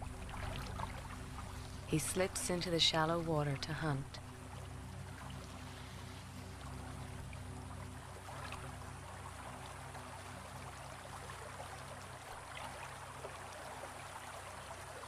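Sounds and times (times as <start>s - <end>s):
small water drips and splashes: 0.0s - 1.9s, 3.4s - 15.0s
shallow water trickling: 0.0s - 15.0s.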